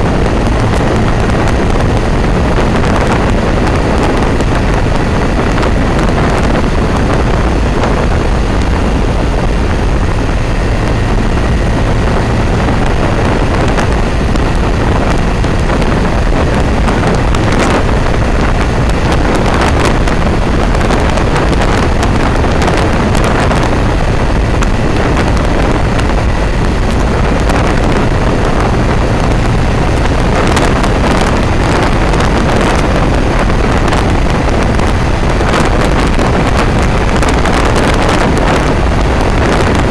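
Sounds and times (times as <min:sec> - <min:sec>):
motorcycle engine and road noise: 0:00.0 - 0:39.9
wind rushing on microphone: 0:00.0 - 0:39.9.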